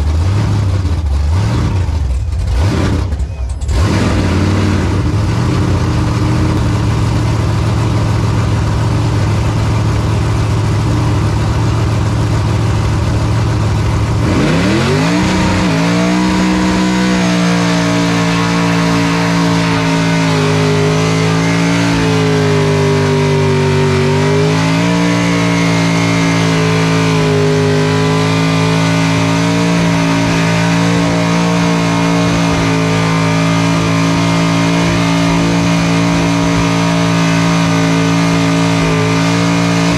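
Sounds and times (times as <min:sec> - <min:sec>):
car engine revving loud: 0:00.0 - 0:39.9.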